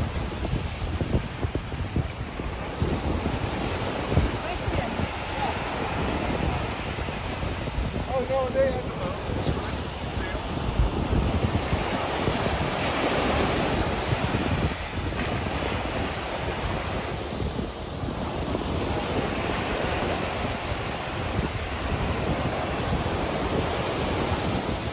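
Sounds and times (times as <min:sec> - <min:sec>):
waves breaking on sandy shore: 0:00.0 - 0:24.9
wind buffeting microphone: 0:00.0 - 0:24.9.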